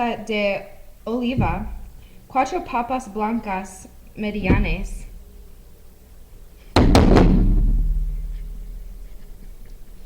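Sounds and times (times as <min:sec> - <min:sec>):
heavy thud: 0:00.8 - 0:09.2.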